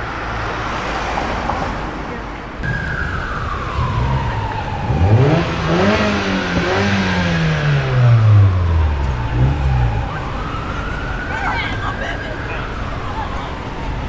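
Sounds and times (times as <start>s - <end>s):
traffic: 0.0s - 14.0s
car engine revving: 2.6s - 14.0s
siren wailing: 2.6s - 14.0s.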